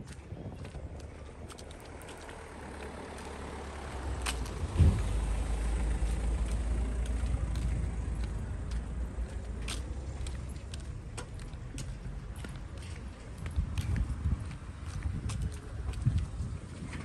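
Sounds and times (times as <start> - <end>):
footsteps: 0.0 - 17.0
vehicle passing rumble: 0.0 - 17.0.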